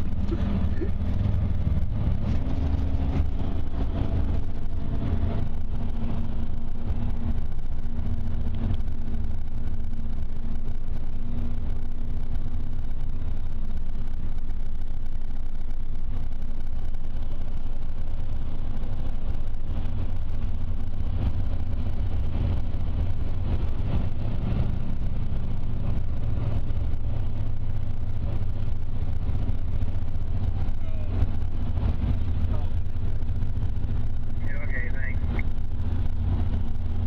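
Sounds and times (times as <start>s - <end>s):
car road and engine drone: 0.0s - 37.0s.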